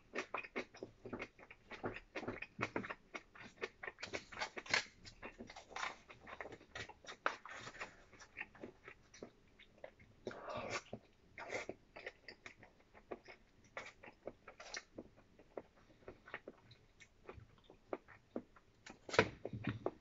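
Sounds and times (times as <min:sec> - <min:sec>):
wet chewing and lip-smacking: 0:00.1 - 0:20.0.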